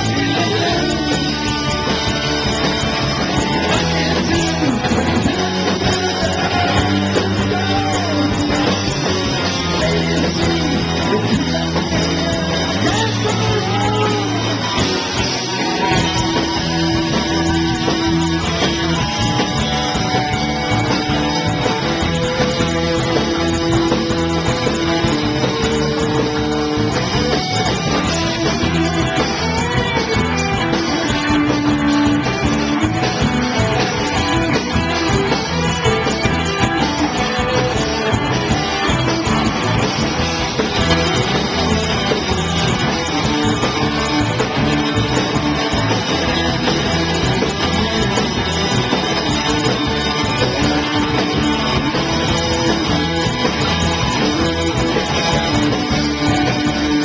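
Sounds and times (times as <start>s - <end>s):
drums: 0.0s - 57.0s
electric guitar: 0.0s - 57.0s.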